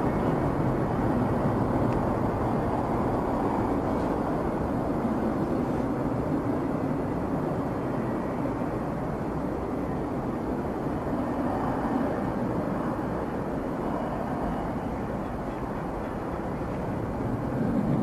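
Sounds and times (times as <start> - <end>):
aircraft engine and airflow noise: 0.0 - 18.0.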